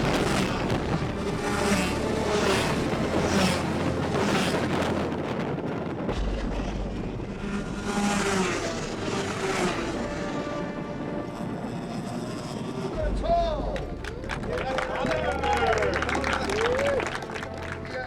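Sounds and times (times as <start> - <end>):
racing karts passing: 0.0 - 18.0
wind buffeting microphone: 0.0 - 18.0.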